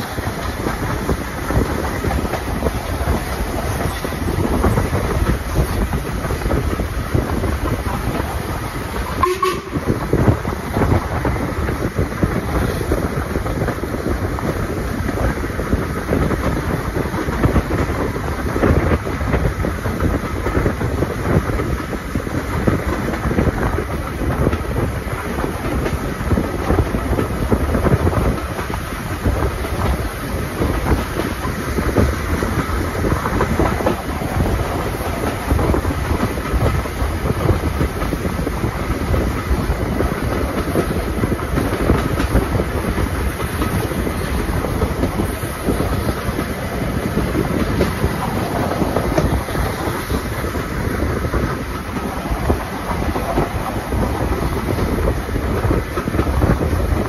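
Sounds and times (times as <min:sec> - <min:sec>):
rumble of train wheels on rail: 0:00.0 - 0:57.0.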